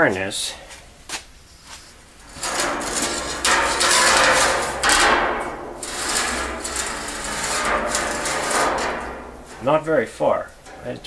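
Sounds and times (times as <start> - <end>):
metal square scraping steel: 2.1 - 11.0.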